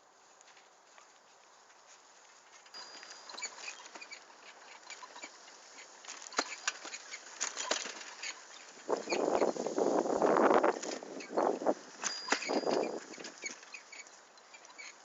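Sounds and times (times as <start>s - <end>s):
bicycle rattling over dirt track: 2.4s - 15.0s.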